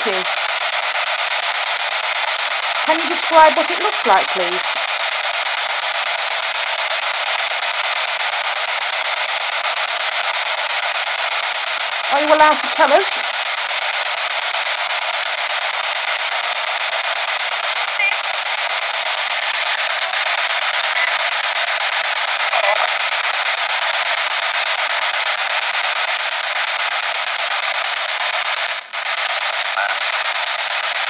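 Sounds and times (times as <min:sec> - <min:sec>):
radio static hiss: 0:00.0 - 0:31.0
snatches of broadcast sound: 0:00.0 - 0:31.0.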